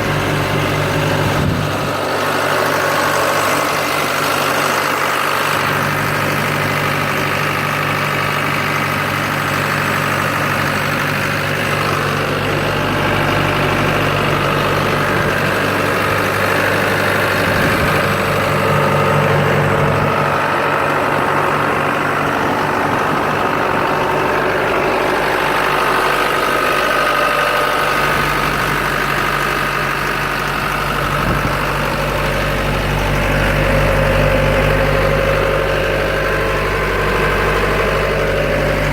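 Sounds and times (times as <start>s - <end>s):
telehandler engine idling: 0.0s - 38.9s.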